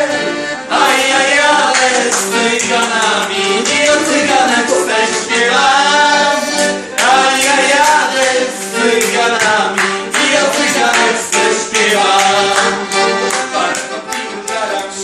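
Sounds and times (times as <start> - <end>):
man singing: 0.0 - 12.9
accordion: 0.0 - 15.0.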